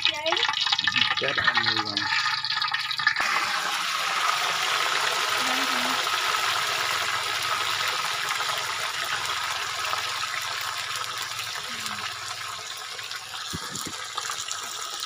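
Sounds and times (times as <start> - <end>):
hot oil sizzling in a wok: 0.0 - 15.0.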